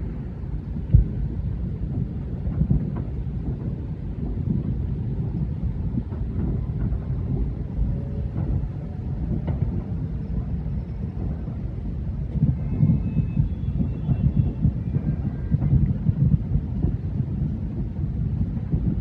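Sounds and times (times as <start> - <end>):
distant fireworks rumbling: 0.0 - 19.0.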